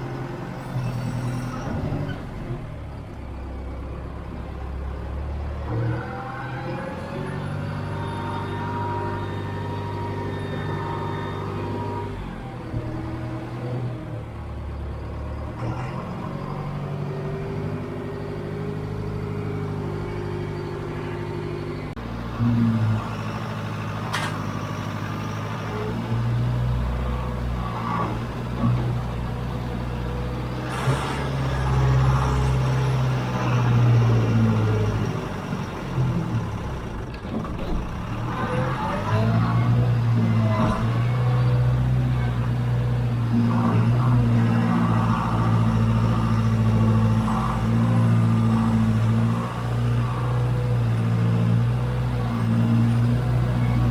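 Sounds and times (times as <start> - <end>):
backhoe engine droning: 0.0 - 53.9.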